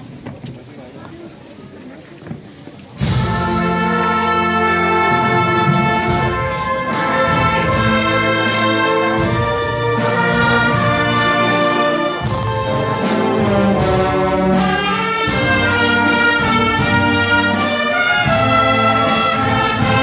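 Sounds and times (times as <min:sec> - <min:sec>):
wind orchestra playing chords: 0:03.0 - 0:20.0.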